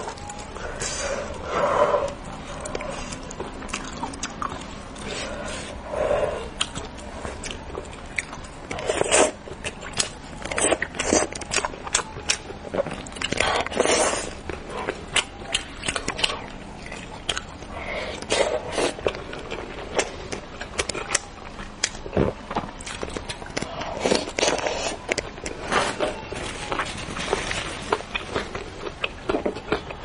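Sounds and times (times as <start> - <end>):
wet chewing and biting: 0.0 - 30.0.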